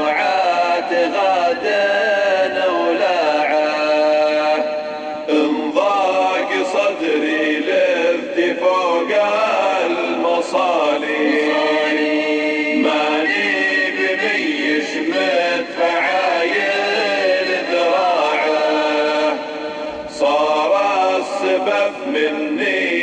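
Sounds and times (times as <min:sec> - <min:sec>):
man chanting unaccompanied: 0:00.0 - 0:23.0.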